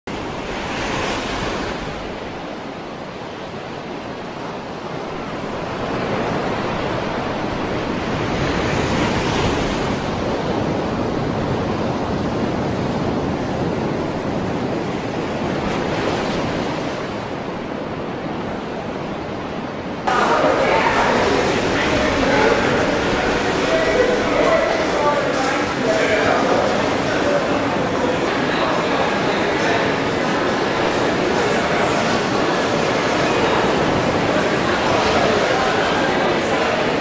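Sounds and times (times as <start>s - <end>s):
ocean surf waves: 0.0s - 37.0s.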